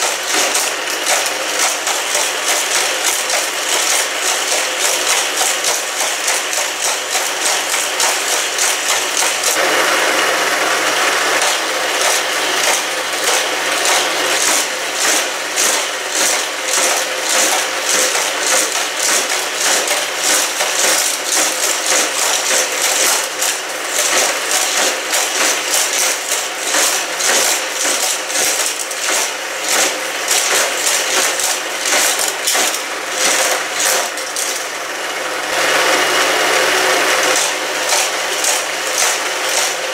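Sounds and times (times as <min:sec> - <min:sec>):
toy cars clattering through track: 0:00.0 - 0:09.6, 0:10.7 - 0:39.9
booster wheels whirring: 0:00.0 - 0:39.9.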